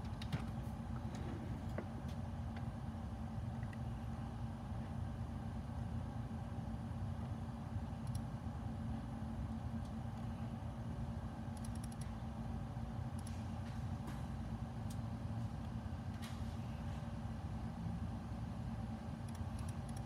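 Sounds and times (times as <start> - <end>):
low hum with faint tone: 0.0 - 20.0.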